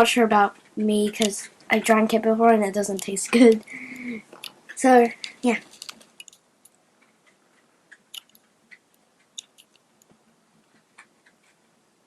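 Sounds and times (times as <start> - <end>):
small clicks and ticks: 0.0 - 11.8
low room hiss: 0.0 - 12.0.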